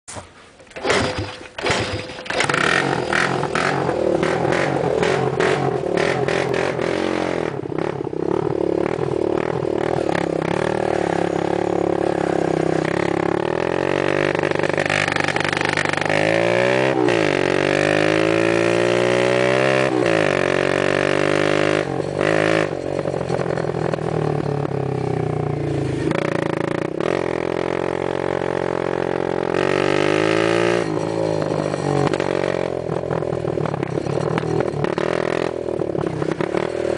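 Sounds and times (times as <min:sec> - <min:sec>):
minibike engine revving: 0:00.8 - 0:36.9.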